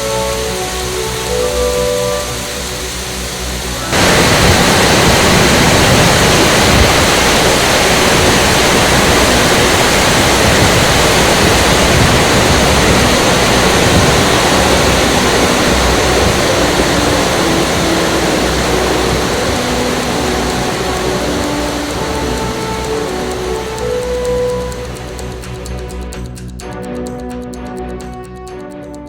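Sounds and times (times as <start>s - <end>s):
waterfall rushing: 0.0s - 25.6s.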